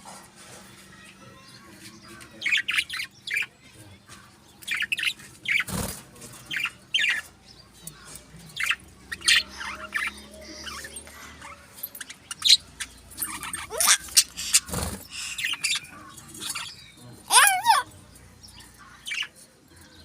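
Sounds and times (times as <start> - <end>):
small birds chirping and twittering: 0.0 - 20.0.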